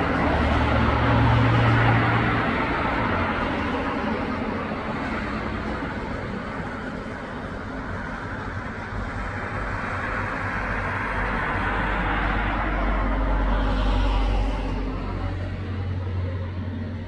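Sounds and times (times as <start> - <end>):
road vehicle passing: 0.0 - 17.0.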